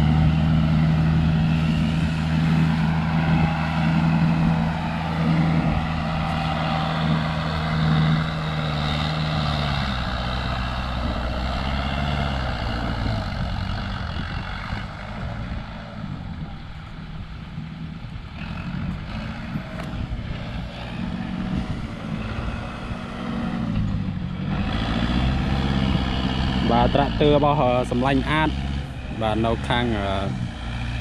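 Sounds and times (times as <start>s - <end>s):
diesel tractor engine under load: 0.0s - 31.0s.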